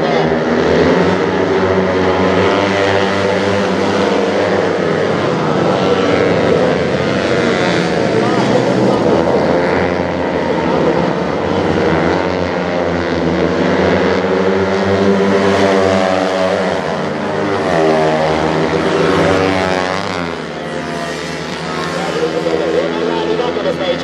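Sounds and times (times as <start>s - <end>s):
buzzing racing bike engines: 0.0s - 24.0s.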